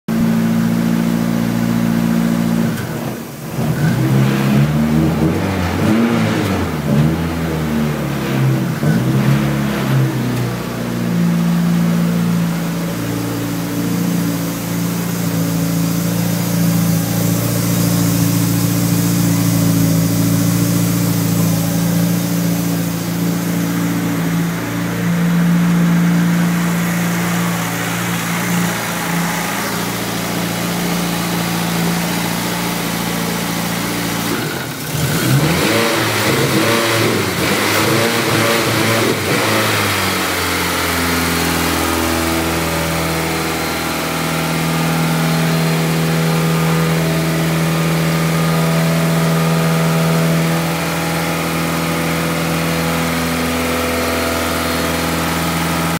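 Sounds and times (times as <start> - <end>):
car engine idling through loud exhaust: 0.1 - 55.9
engine revving: 0.2 - 55.9.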